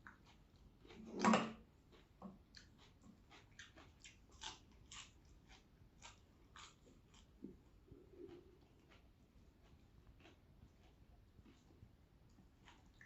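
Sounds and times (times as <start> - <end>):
person chewing crunchy food: 0.0 - 11.7, 12.4 - 13.0.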